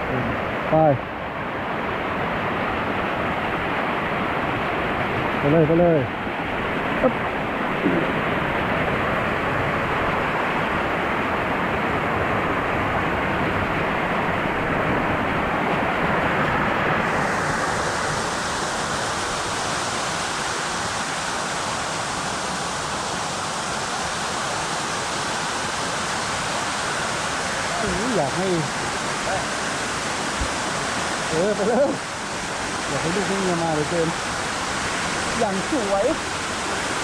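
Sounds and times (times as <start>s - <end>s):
waterfall and stream rushing: 0.0s - 37.0s.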